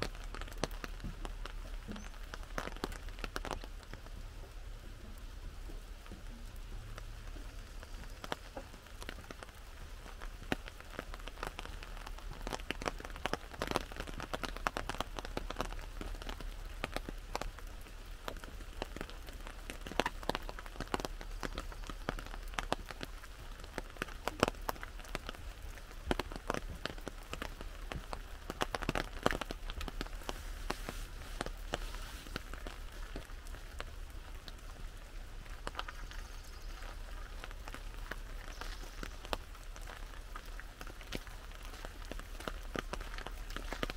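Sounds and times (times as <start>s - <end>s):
rain drops on an umbrella: 0.0s - 43.9s.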